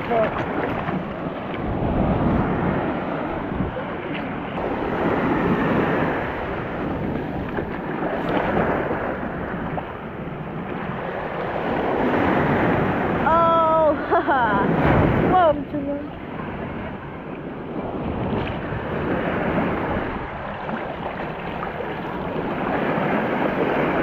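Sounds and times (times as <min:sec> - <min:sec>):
small waves breaking on sand: 0:00.0 - 0:24.0
wind buffeting microphone: 0:00.0 - 0:24.0.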